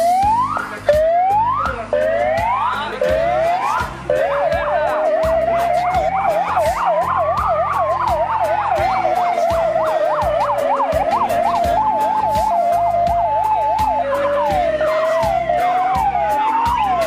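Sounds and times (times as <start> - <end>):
police siren yelp: 0.0 - 17.0
siren wail: 0.0 - 17.0
two-tone siren: 0.0 - 17.0.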